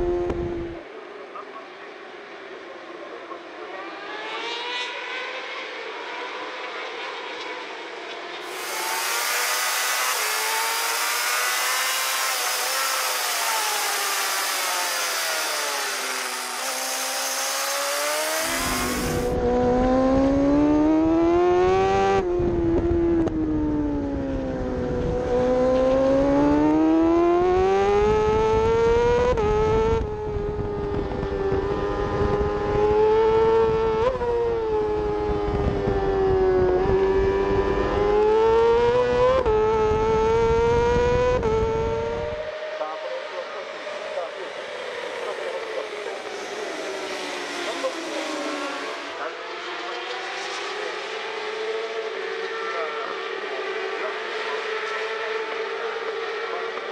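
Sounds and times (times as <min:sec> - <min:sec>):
racing motorcycle engine at high revs: 0:00.0 - 0:01.8, 0:03.1 - 0:56.9.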